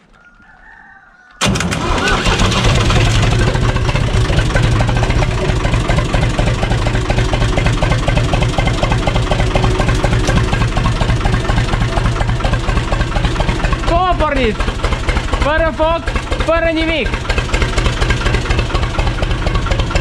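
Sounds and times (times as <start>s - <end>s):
tractor diesel engine running: 1.4s - 20.0s.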